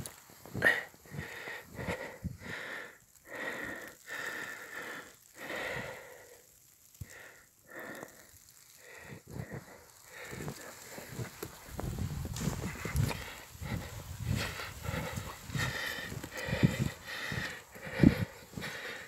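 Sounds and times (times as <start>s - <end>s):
person breathing hard: 0.1s - 19.0s.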